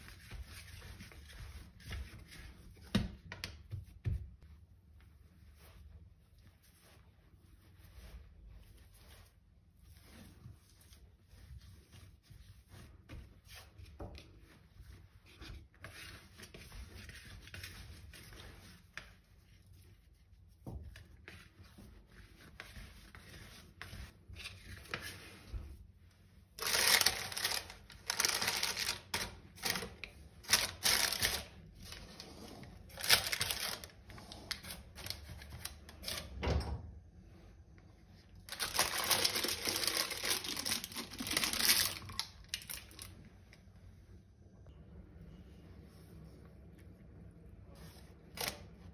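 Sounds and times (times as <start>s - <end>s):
baking paper crinkling: 0.0s - 4.4s, 5.2s - 36.4s, 38.2s - 43.2s, 47.7s - 48.9s
hands rubbing dough: 0.0s - 36.3s, 37.2s - 44.2s, 45.1s - 48.9s.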